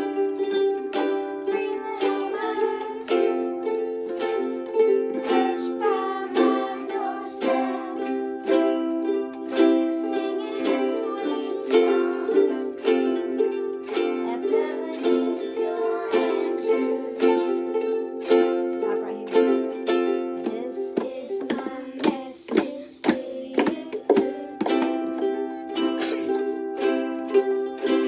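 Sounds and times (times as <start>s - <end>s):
ukuleles strumming chords: 0.0s - 28.0s.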